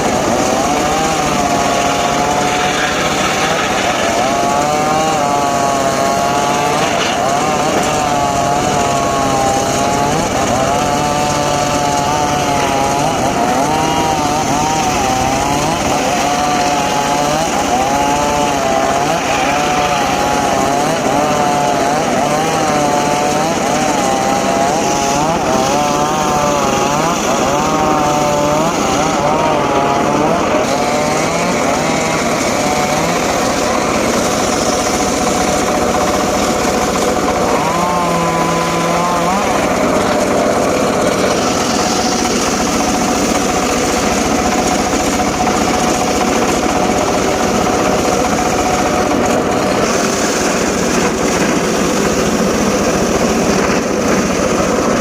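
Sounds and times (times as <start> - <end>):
engine-driven saw cutting wood: 0.0 - 55.0.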